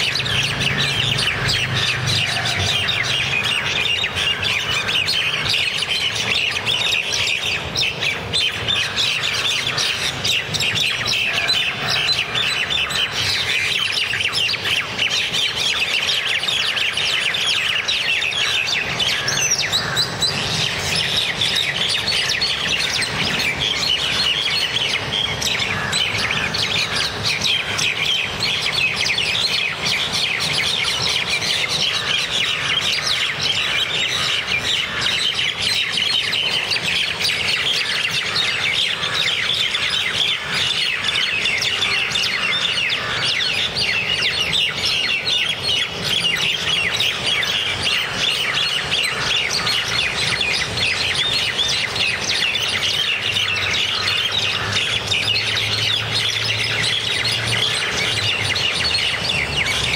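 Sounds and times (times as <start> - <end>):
birds squawking and calling: 0.0 - 59.9.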